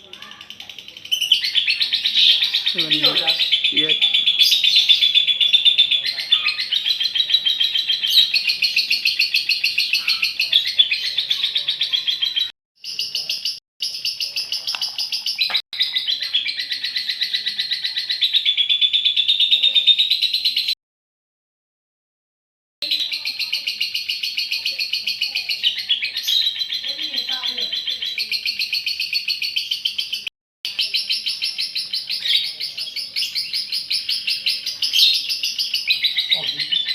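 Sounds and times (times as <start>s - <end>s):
lovebird chattering trill: 0.0s - 20.7s, 22.8s - 36.9s.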